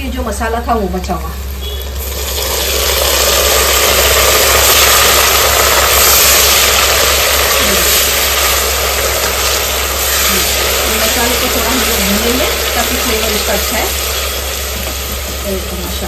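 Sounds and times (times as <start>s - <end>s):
paste sizzling in hot oil: 1.5s - 16.0s.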